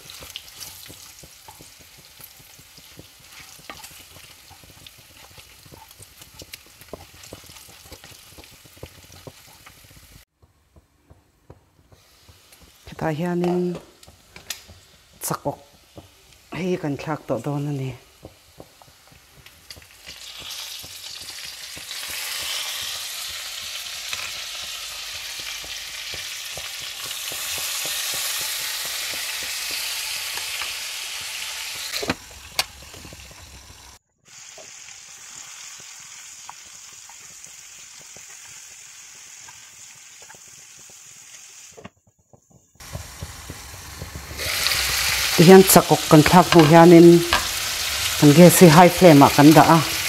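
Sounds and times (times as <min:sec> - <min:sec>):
food sizzling in hot oil: 0:00.0 - 0:10.3, 0:11.8 - 0:50.0.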